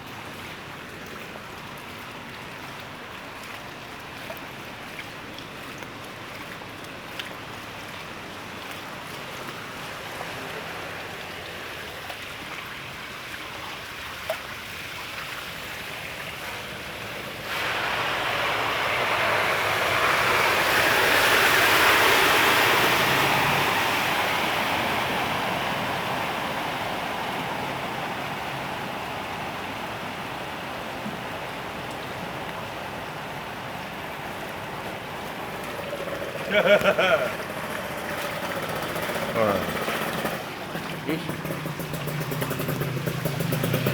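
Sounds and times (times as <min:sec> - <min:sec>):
rain and floodwater rushing: 0:00.0 - 0:43.9.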